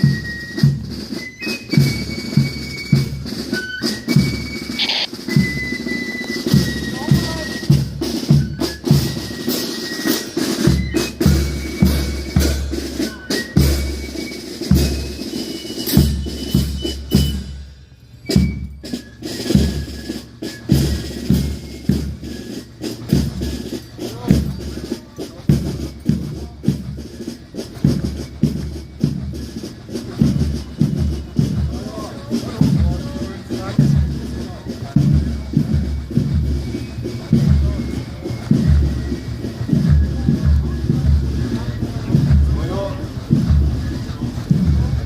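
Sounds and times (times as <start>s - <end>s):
snare drum strokes: 0.0s - 45.0s.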